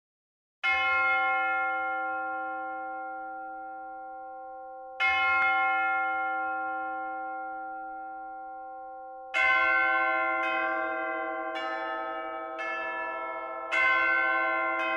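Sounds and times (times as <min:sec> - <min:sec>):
large church bell ringing: 0:00.6 - 0:14.9.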